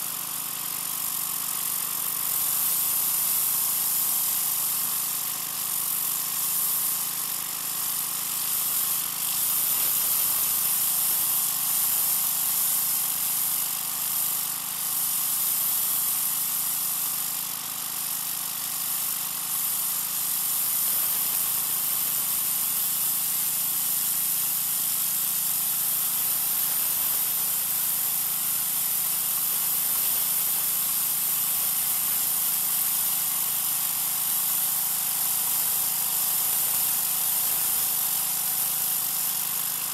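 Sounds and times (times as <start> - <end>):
pressure washer spraying concrete: 0.0 - 39.9.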